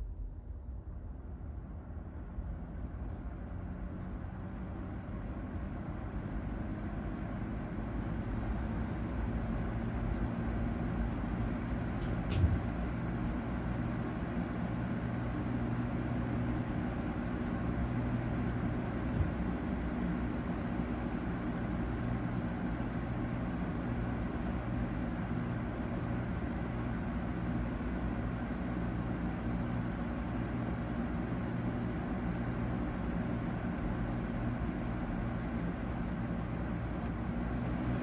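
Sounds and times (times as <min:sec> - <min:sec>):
box fan running: 0:02.0 - 0:38.0.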